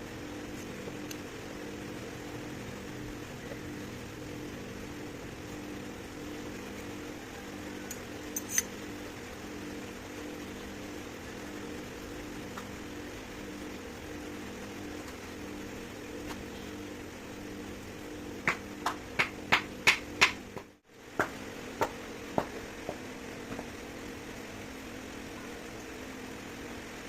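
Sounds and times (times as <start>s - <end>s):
pulsing machine hum: 0.0s - 27.0s.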